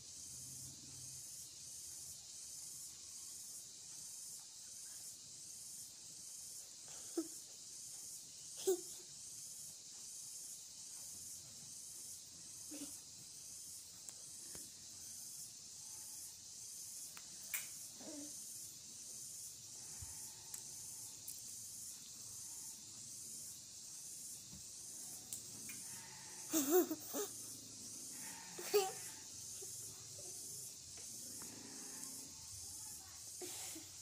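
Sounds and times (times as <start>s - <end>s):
steady high hiss: 0.0s - 34.0s.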